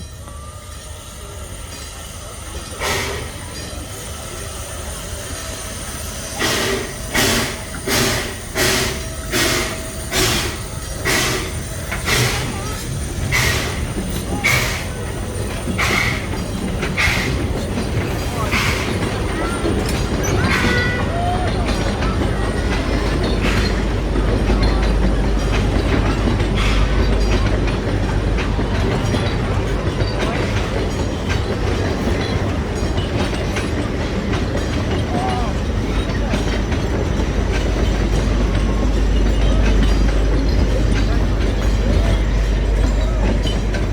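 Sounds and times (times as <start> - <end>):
steam locomotive exhaust chuffing: 0.0 - 43.9
wheels clicking and clacking: 0.0 - 43.9.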